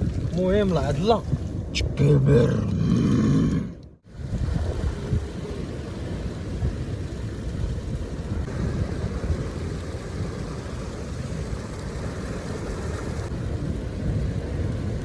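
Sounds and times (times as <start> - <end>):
rough sea surf: 0.0 - 15.0
wind rumble: 0.0 - 15.0.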